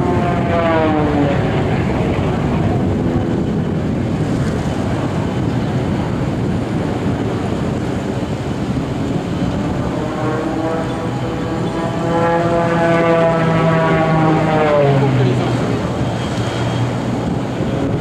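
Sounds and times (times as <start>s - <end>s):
propeller plane engine drone: 0.0s - 18.0s
steady rushing noise: 0.0s - 18.0s.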